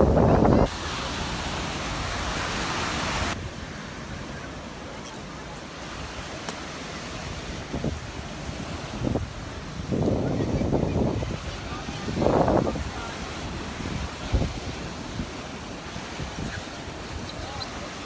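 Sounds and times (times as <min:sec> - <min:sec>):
surf washing on beach: 0:00.0 - 0:18.0.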